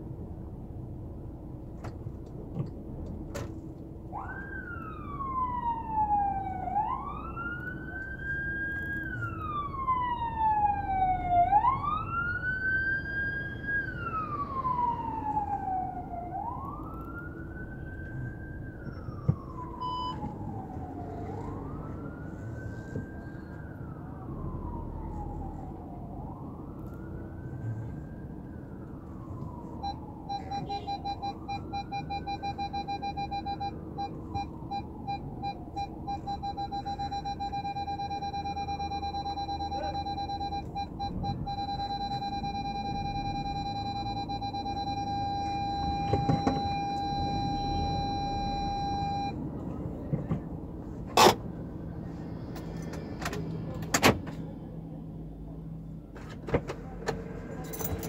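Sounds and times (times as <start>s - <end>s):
emergency siren wailing: 4.0s - 50.7s.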